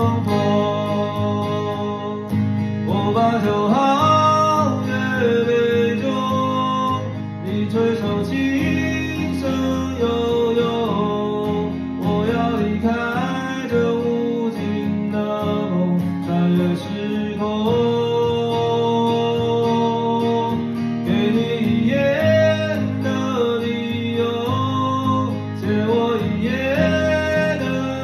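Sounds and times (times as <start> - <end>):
man singing: 0.0 - 28.0
strummed acoustic guitar: 0.0 - 28.0.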